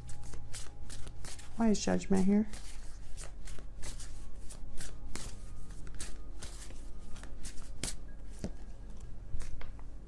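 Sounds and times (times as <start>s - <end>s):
cards being shuffled: 0.0s - 9.9s.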